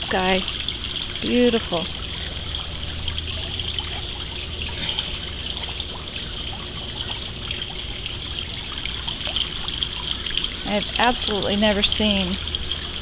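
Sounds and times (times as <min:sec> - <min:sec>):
low steady hum: 0:00.0 - 0:13.0
water trickling: 0:00.0 - 0:13.0.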